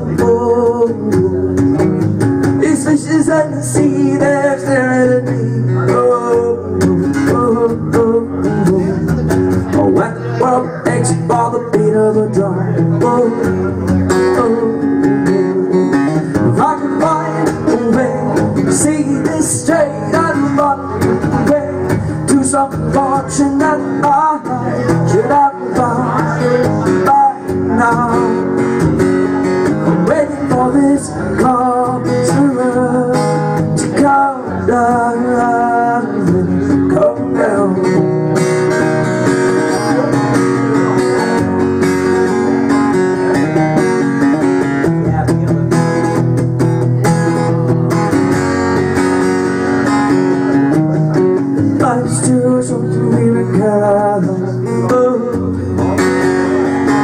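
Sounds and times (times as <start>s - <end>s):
man singing: 0.0s - 46.3s, 48.4s - 57.0s
acoustic guitar strumming: 0.0s - 57.0s.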